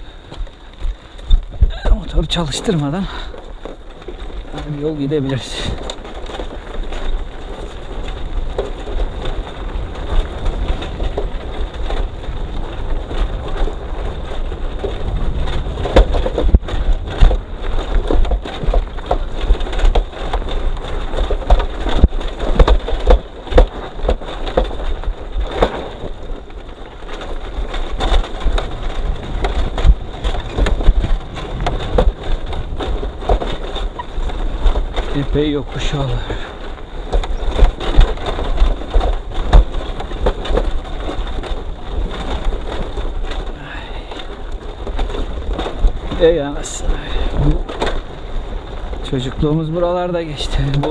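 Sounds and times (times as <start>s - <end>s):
motorcycle rattling and knocking: 0.0s - 50.9s
tyres crunching over gravel: 0.0s - 50.9s
wind rumbling on microphone: 0.0s - 50.9s.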